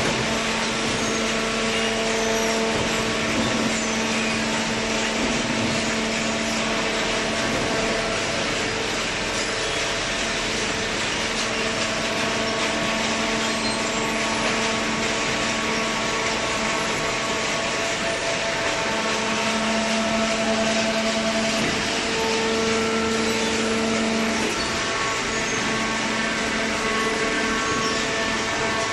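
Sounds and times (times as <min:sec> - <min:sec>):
baler machine running: 0:00.0 - 0:28.9
machine hum: 0:00.0 - 0:28.9.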